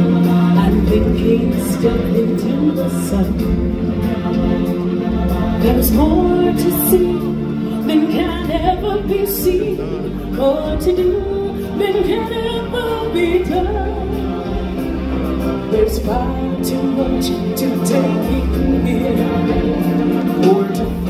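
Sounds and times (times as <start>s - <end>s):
live band playing: 0.0s - 21.0s
voices singing: 0.0s - 21.0s.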